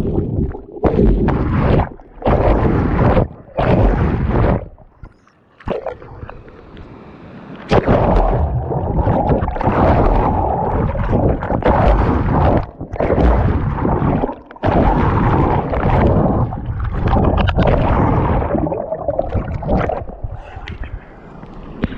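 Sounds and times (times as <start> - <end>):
muffled water rushing: 0.0 - 21.9.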